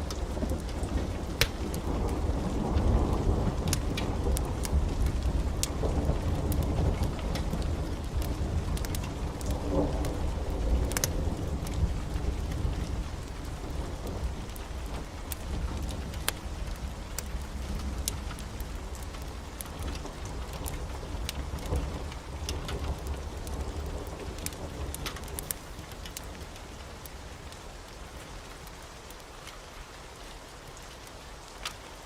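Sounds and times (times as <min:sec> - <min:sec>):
low rumble of thunder: 0:00.0 - 0:27.9
sharp crackles: 0:00.0 - 0:29.6
heavy rain: 0:00.0 - 0:32.0.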